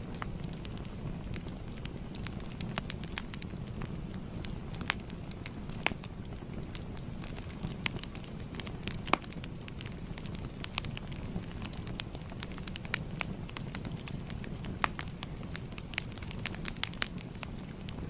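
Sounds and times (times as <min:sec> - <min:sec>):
fire crackling and popping: 0:00.0 - 0:18.0
low rush of flames: 0:00.0 - 0:18.0.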